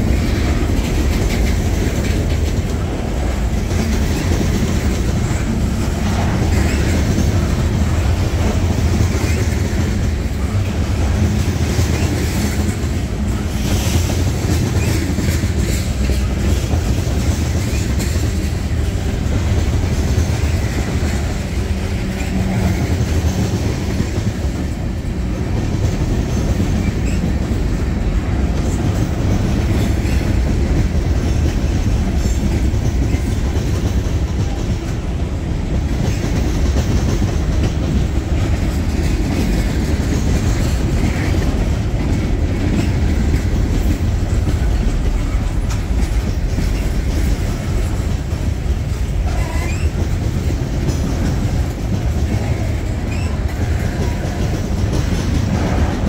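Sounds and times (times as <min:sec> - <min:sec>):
repeated rail clicks: 0:00.0 - 0:56.0
train wheels rumbling on rails: 0:00.0 - 0:56.0.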